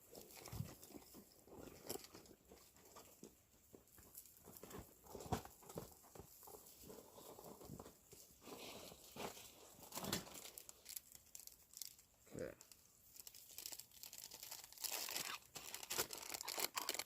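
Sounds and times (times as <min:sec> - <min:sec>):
rummaging through a bag: 0:00.0 - 0:17.0.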